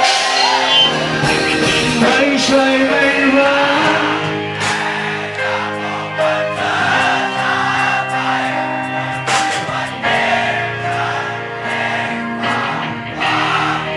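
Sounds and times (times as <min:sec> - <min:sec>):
live band music: 0:00.0 - 0:13.9
person singing: 0:00.0 - 0:13.9.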